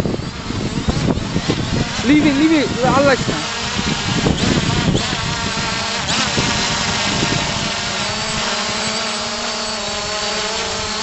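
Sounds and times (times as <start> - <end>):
drone propellers whining: 0.0 - 11.0
wind buffeting microphone: 0.0 - 11.0.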